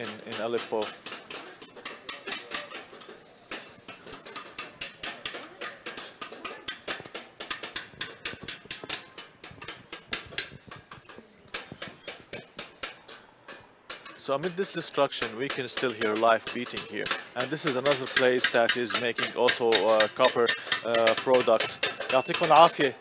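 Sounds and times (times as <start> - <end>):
hammer tapping copper: 0.0 - 23.0.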